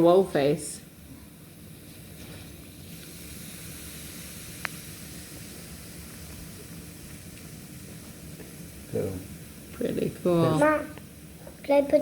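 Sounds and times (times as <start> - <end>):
fizzing hiss of foaming mix: 0.0 - 12.0.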